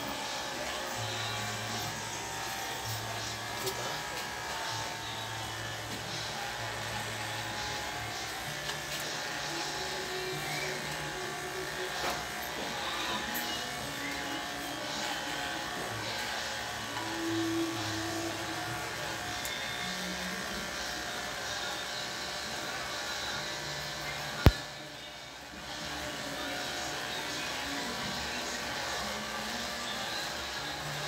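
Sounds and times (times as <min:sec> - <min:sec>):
electric hair clippers buzzing: 0:00.0 - 0:31.0.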